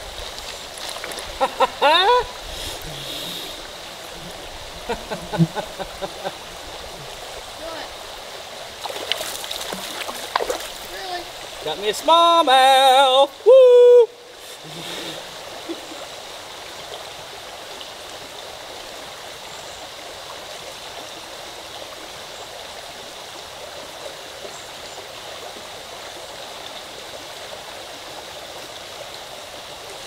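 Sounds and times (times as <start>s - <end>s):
river water running: 0.0s - 30.0s.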